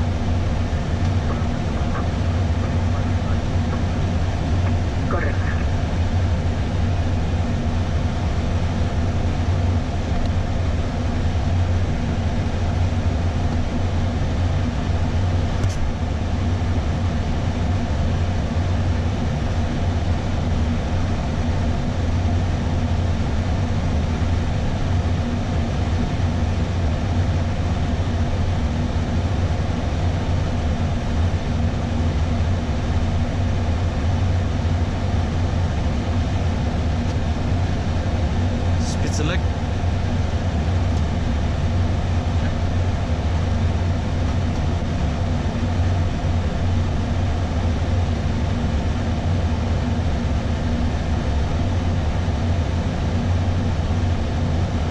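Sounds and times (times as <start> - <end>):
jet engines low rumble: 0.0 - 54.9.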